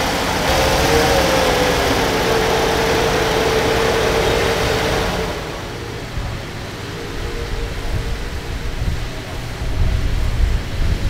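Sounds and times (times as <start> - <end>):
engine idling: 0.0 - 10.0
steady whine: 0.0 - 11.0.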